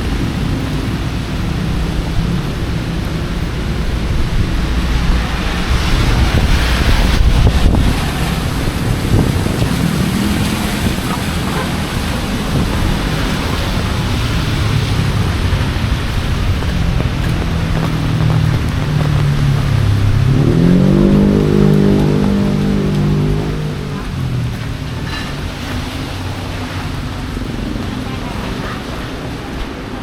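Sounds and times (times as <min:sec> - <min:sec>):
heavy rain pouring: 0:00.0 - 0:30.0
low rumble: 0:00.0 - 0:30.0.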